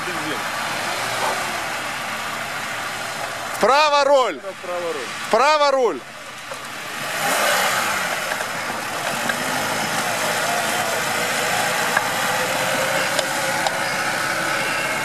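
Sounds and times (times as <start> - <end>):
car engine running under load: 0.0 - 15.0.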